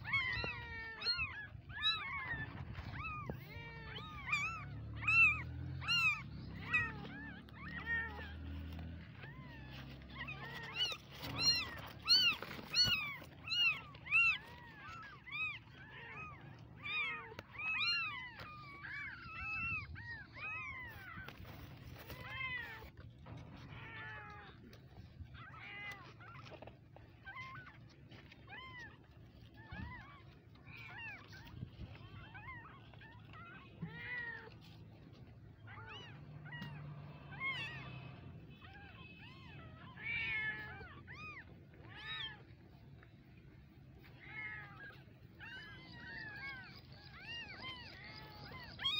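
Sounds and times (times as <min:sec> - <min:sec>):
kittens mewing: 0:00.0 - 0:48.9.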